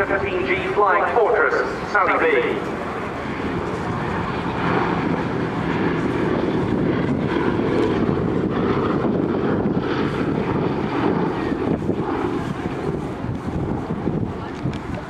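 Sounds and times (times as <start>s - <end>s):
propeller engines rumbling: 0.0s - 15.0s.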